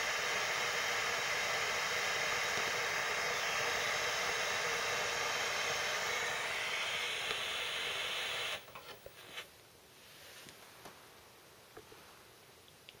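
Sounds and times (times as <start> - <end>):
television static hiss: 0.0 - 13.0.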